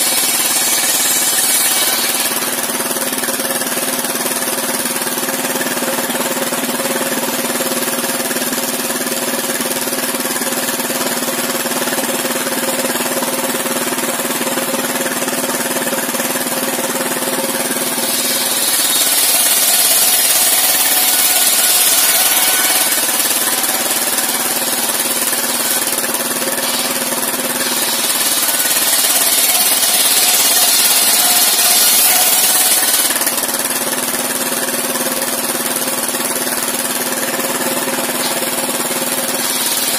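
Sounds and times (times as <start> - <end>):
circular saw cutting wood: 0.0 - 39.9
stationary engine running: 0.0 - 39.9.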